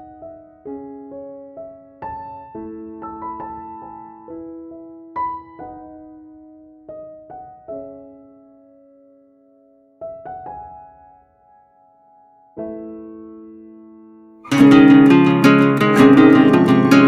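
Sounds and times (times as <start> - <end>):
soft slow piano music: 0.0 - 17.0.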